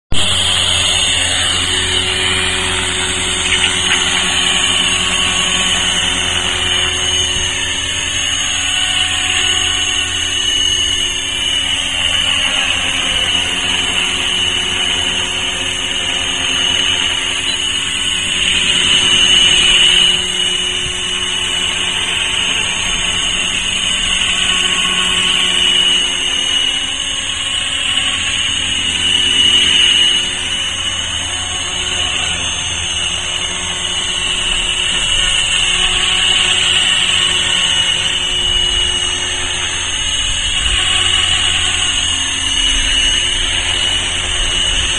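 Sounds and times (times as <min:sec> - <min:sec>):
rc helicopter motor whine: 0:00.1 - 0:44.9
rotor blades humming: 0:00.1 - 0:44.9.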